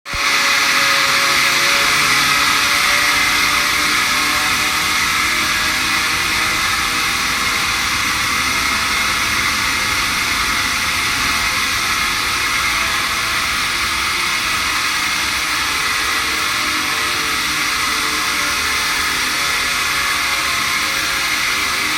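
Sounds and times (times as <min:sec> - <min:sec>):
air compressor running: 0:00.1 - 0:21.9.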